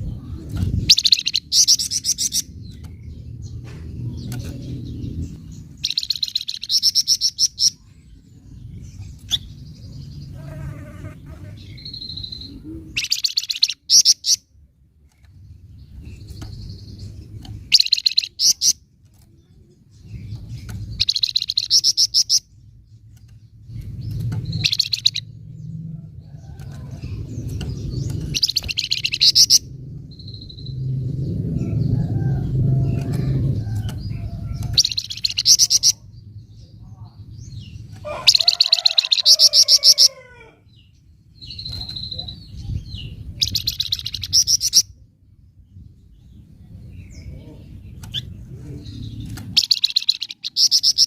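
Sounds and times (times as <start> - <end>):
low rumbling background noise: 0.0 - 51.0.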